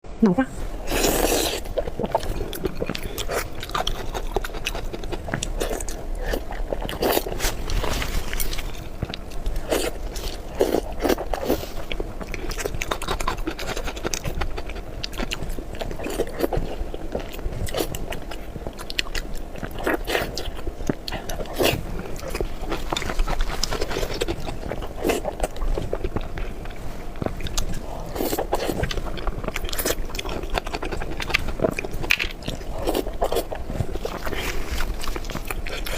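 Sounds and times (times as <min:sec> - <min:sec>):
chewing and wet mouth sounds: 0:00.8 - 0:35.9.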